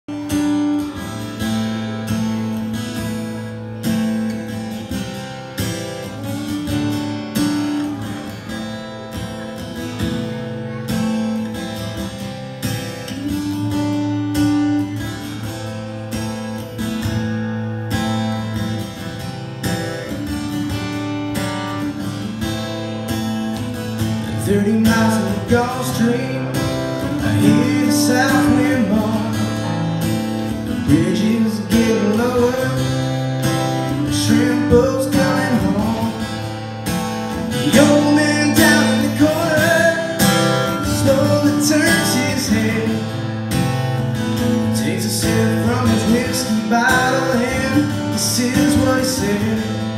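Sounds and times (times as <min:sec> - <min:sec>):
electric and acoustic guitars: 0:00.0 - 0:49.9.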